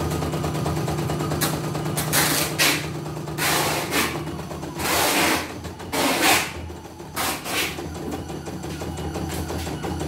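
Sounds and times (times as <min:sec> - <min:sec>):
faint motor hum: 0:00.0 - 0:10.0.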